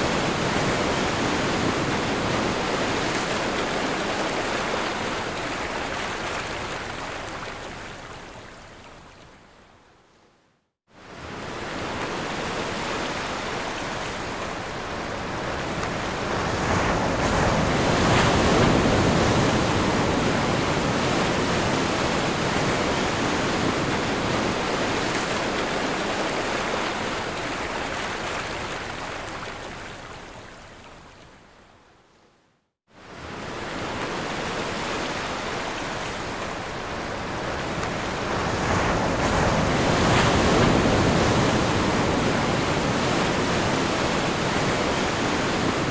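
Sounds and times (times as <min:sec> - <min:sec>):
ocean waves breaking: 0:00.0 - 0:08.3, 0:11.0 - 0:30.3, 0:33.0 - 0:45.9.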